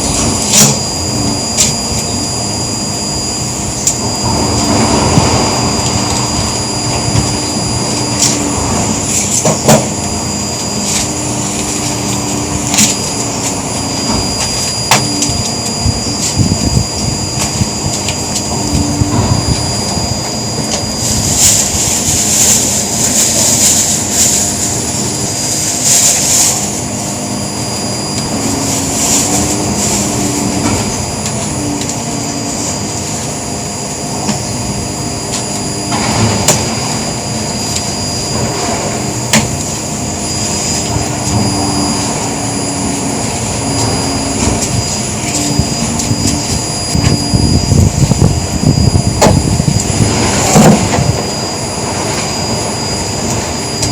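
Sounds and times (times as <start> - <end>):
electric drill motor whine: 0.0 - 53.9.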